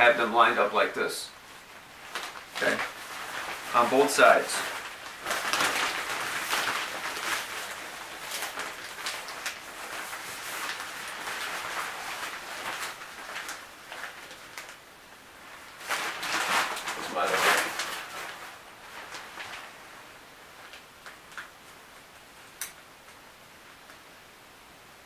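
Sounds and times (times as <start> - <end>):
shower curtain rustling: 0.0 - 23.2.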